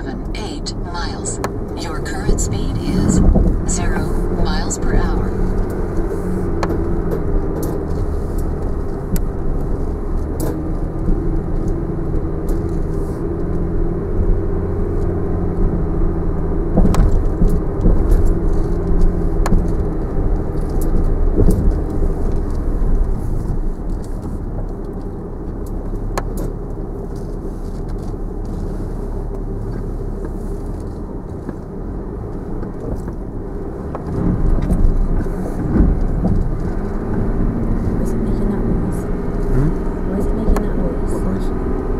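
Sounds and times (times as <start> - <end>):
low engine drone: 0.0 - 41.9.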